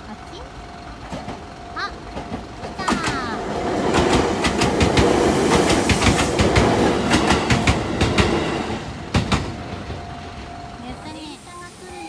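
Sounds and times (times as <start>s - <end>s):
electric train passing: 0.0s - 12.0s
wheels clacking over rail joints: 0.6s - 11.2s.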